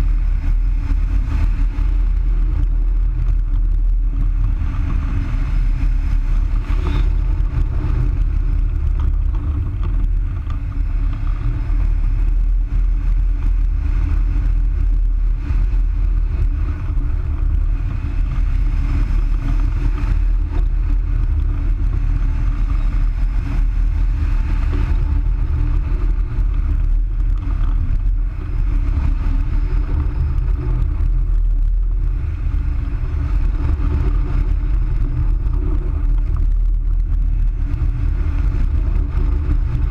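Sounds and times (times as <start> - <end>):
wind noise rumble: 0.0 - 39.9.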